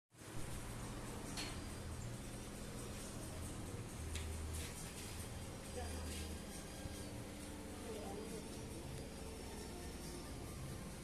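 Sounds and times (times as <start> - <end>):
steady low hum: 0.2 - 11.0.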